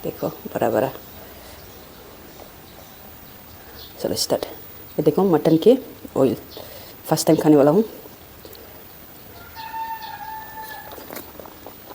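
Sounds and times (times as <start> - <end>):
low background hiss: 0.0 - 11.9.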